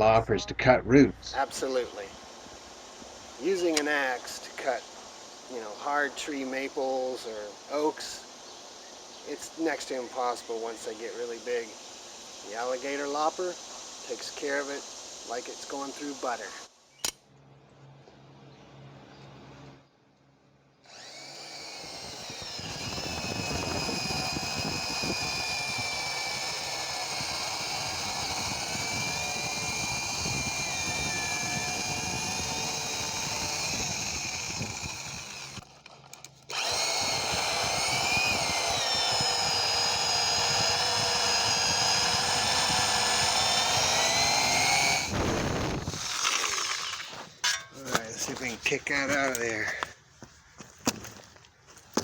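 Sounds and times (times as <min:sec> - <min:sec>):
electric chainsaw cutting root: 0:02.4 - 0:08.2, 0:09.3 - 0:16.7, 0:20.8 - 0:49.5.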